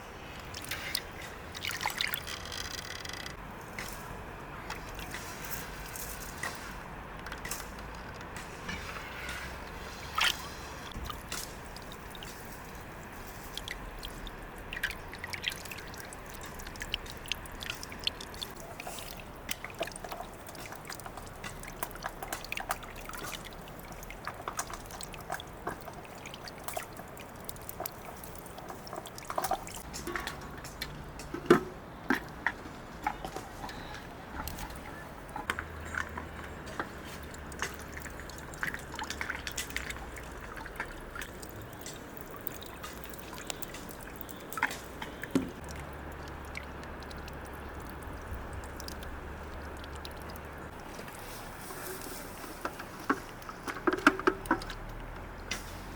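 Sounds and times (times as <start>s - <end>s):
liquid trickling and dripping: 0.2s - 55.9s.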